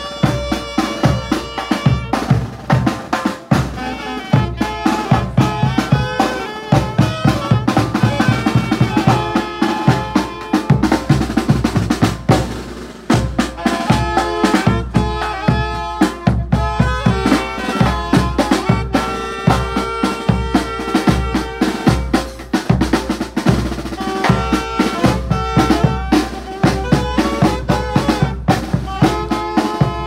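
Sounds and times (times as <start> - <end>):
saxophones: 0.0 - 12.0, 13.1 - 22.6, 23.8 - 30.0
bass drum and snare beat: 0.0 - 30.0
marching band playing: 0.0 - 30.0.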